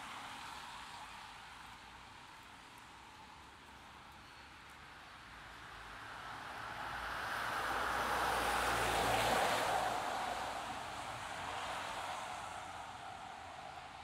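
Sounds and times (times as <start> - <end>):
tyre hiss on wet road: 0.0 - 14.0.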